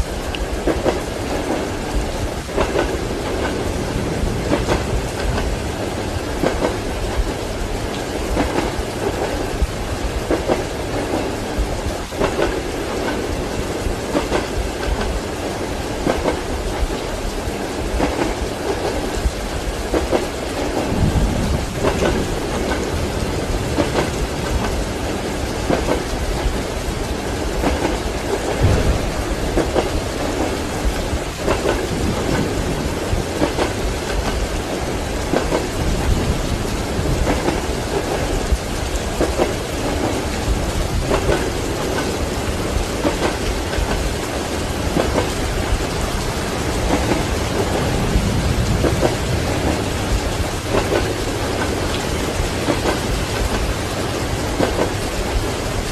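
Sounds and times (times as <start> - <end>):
heavy rain: 0.0 - 55.9
thunder rolling: 0.0 - 55.9
train wheels clacking over rails: 0.0 - 55.9.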